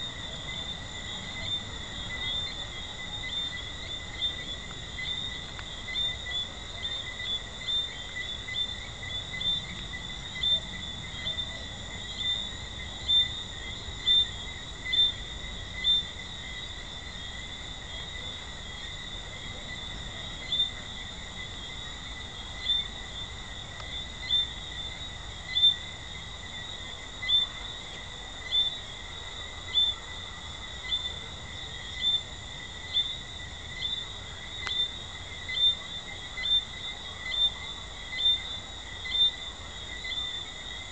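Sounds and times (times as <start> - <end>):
high-pitched frog chorus: 0.0 - 40.9
treefrogs chirping: 0.0 - 40.9.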